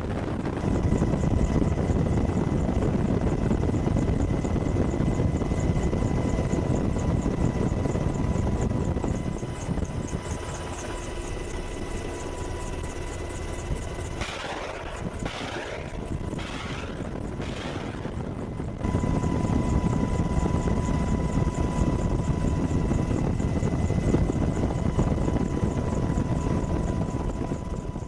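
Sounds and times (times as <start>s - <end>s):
helicopter rotor and engines: 0.0s - 28.0s.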